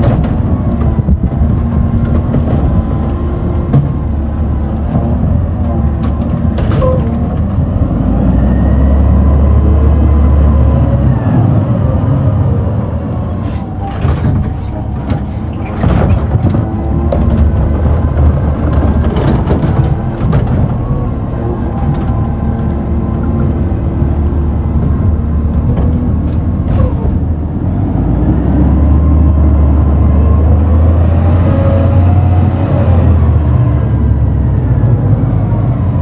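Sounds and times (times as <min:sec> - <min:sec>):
garbage truck engine running: 0:00.0 - 0:36.0.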